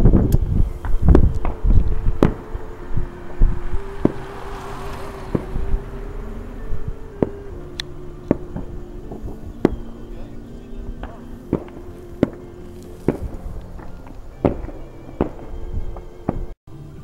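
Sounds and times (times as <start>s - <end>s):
distant fireworks bangs: 0.0s - 16.6s
soft hiss: 0.0s - 17.0s.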